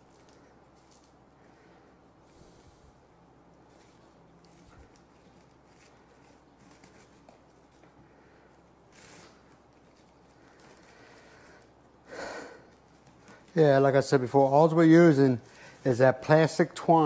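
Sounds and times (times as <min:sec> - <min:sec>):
plastic twine rustling: 0:00.0 - 0:01.7, 0:03.5 - 0:17.0.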